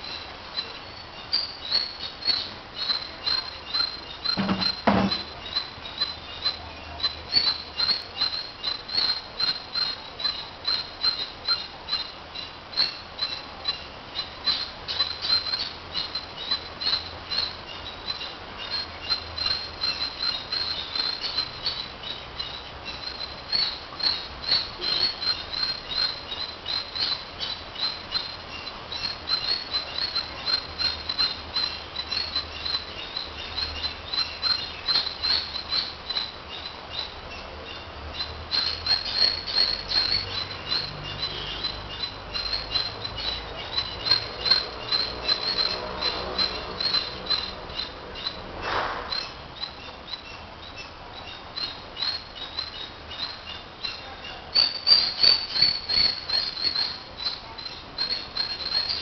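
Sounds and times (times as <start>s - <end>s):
bird chirping rapidly: 0.0s - 59.0s.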